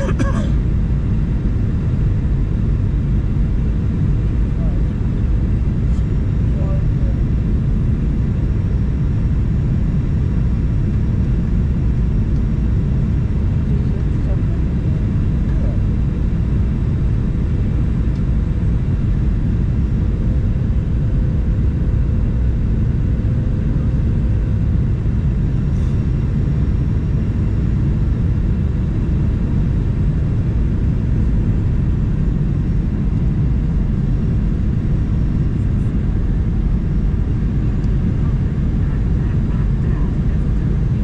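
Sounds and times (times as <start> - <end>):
airplane cabin rumble: 0.0 - 41.0.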